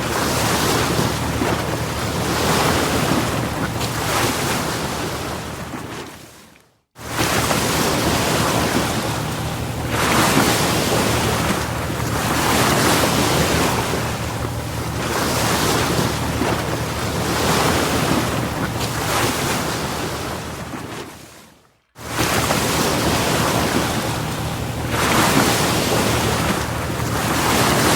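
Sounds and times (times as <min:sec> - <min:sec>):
ocean waves washing in: 0:00.0 - 0:27.9.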